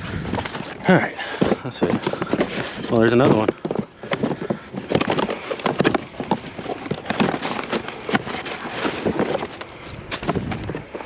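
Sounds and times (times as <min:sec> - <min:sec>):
scrap rummaged through by hand: 0:00.0 - 0:11.0.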